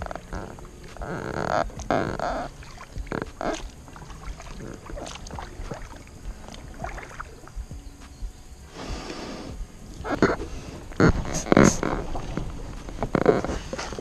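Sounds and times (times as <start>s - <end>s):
kayak paddle splashing water: 0.0s - 14.0s.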